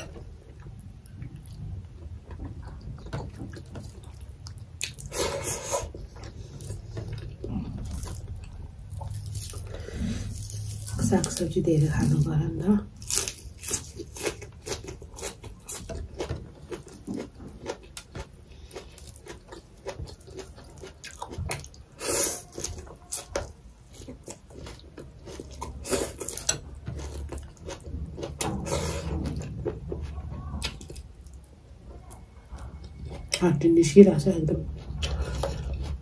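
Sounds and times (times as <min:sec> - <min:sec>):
chewing leafy greens: 0:00.7 - 0:36.0.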